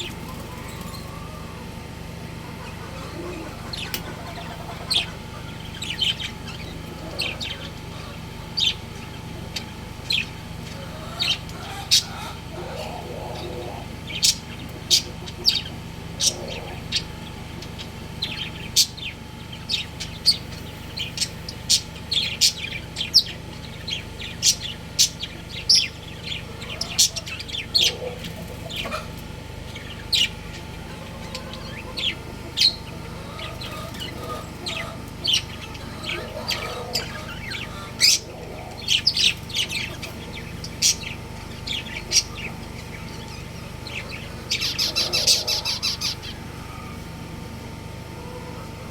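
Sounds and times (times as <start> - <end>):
budgerigars chirping: 0.0 - 48.9.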